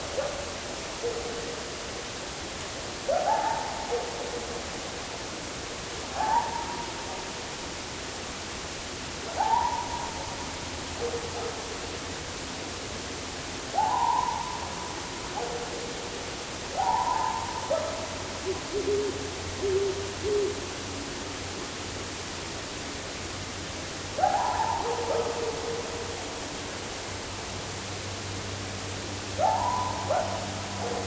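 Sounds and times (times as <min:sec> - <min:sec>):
steady hiss and low hum: 0:00.0 - 0:31.0.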